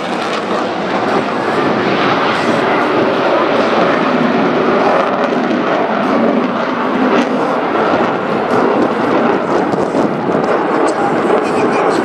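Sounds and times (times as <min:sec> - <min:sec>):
fighter jet noise: 0:00.0 - 0:12.0.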